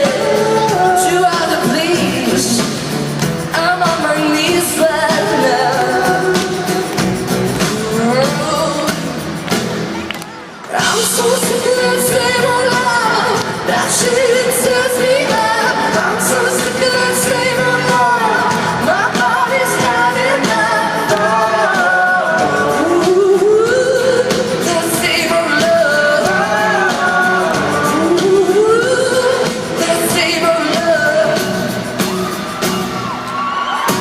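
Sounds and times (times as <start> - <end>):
person singing: 0.0 - 9.4, 10.2 - 32.9
loud backing music: 0.0 - 34.0.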